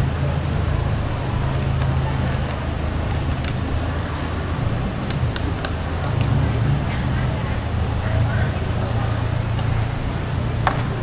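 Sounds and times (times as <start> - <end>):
traffic background noise: 0.0 - 11.0.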